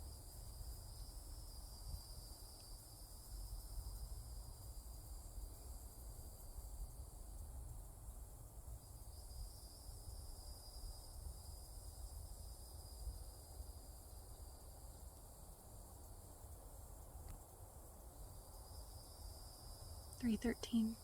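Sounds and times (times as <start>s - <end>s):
low rumble of wind: 0.0s - 20.2s
high-pitched insect trill: 0.0s - 21.0s.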